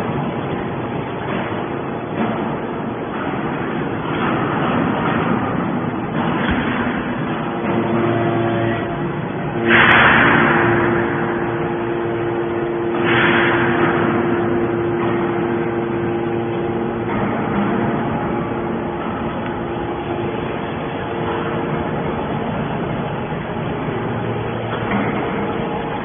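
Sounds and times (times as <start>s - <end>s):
hydraulic press hum: 0.0s - 26.0s
hydraulic rushing surges: 0.0s - 26.0s.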